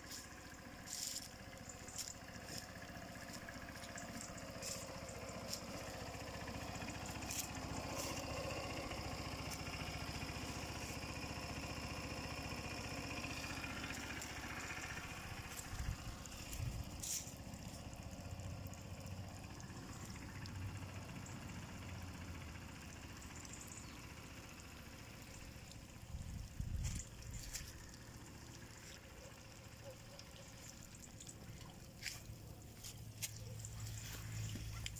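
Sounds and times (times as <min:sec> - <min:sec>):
small engine idling: 0:00.0 - 0:34.9.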